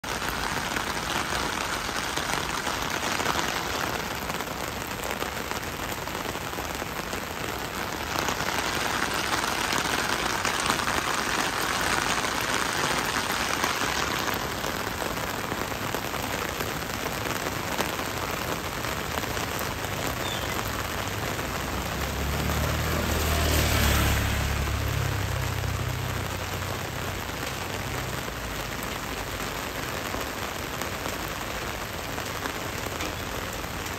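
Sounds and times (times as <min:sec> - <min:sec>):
heavy rain on paved street: 0:00.0 - 0:33.9.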